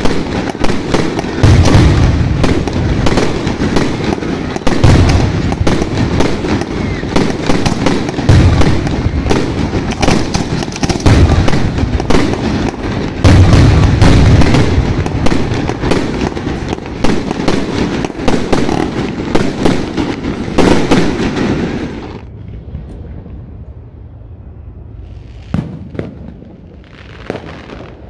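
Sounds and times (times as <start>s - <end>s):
fireworks bangs: 0.0s - 24.1s, 25.0s - 28.0s.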